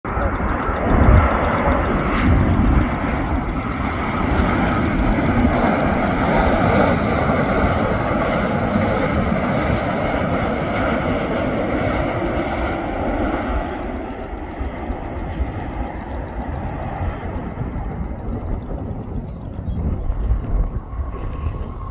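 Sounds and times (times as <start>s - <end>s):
jet engine roar: 0.0s - 21.9s.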